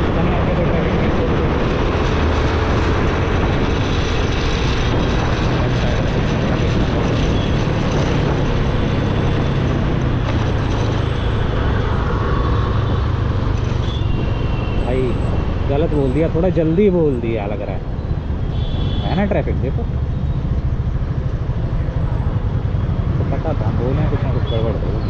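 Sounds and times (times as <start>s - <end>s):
wind rushing on microphone: 0.0s - 25.0s.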